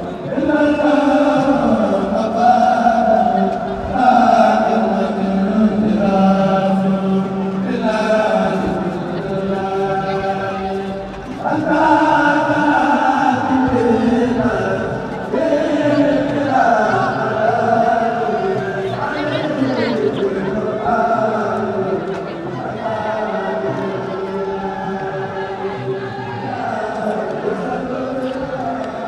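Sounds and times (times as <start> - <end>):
voices chanting in unison: 0.0 - 29.0.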